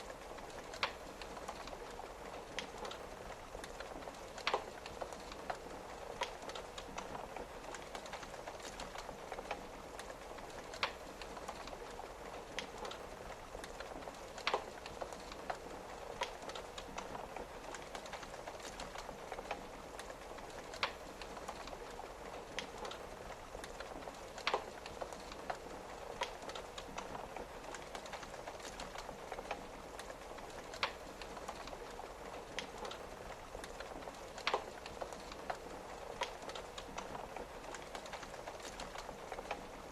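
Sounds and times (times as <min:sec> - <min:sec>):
fireplace crackling and popping: 0:00.0 - 0:39.9
rain pattering: 0:00.0 - 0:39.9.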